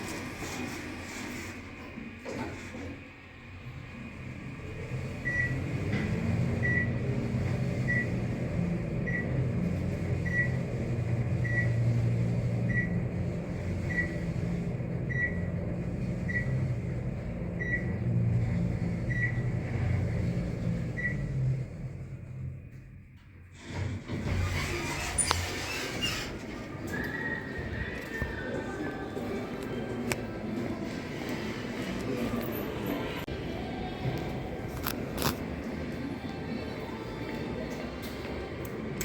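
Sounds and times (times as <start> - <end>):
elevator humming: 0.0 - 39.0.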